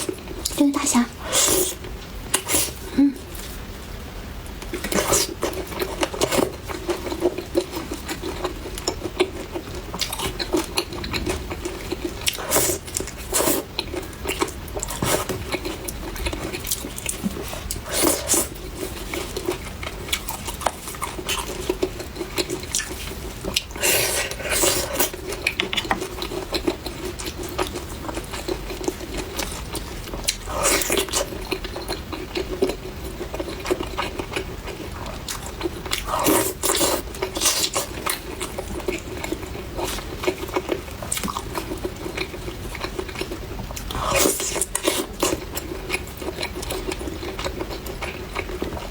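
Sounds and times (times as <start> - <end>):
steady low hum: 0.0 - 48.9
crunching and chewing fried chicken: 4.5 - 48.9.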